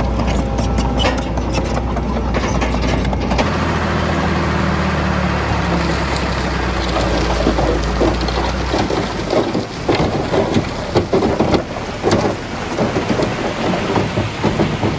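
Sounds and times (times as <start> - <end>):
heavy diesel engine running: 0.0 - 14.9.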